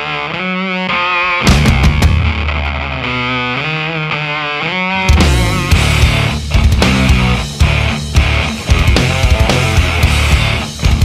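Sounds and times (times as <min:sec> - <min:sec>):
distorted electric guitar: 0:00.0 - 0:11.0.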